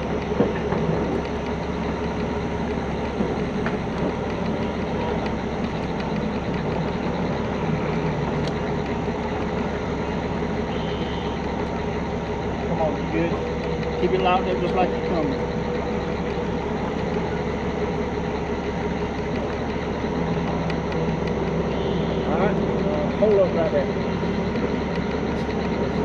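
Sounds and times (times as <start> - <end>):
diesel truck engines running: 0.0 - 26.0.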